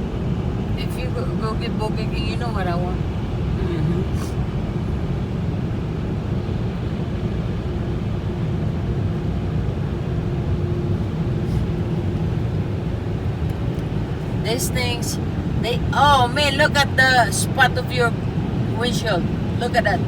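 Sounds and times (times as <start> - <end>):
car engine and tyres rumbling: 0.0 - 20.0
faint steady hum: 0.0 - 20.0.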